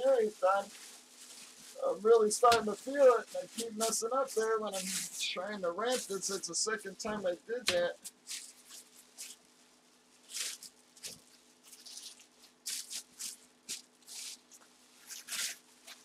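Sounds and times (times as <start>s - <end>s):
plastic bag and bubble wrap crinkling: 0.0s - 16.0s.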